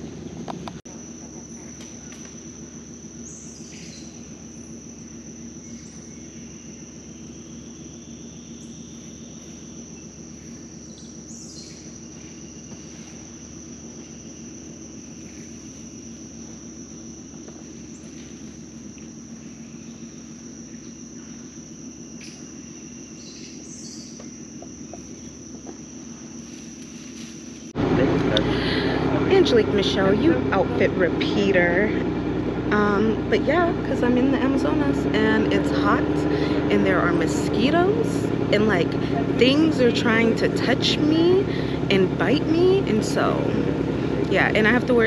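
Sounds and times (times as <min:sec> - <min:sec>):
insects droning: 0:00.0 - 0:45.0
low steady hum: 0:00.0 - 0:45.0.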